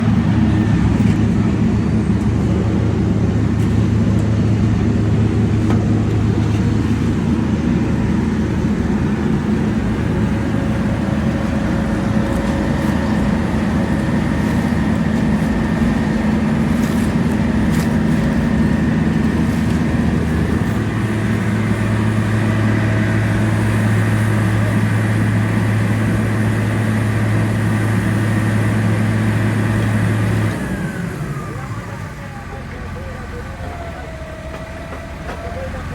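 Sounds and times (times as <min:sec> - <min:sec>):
heavy diesel engine running: 0:00.0 - 0:35.9.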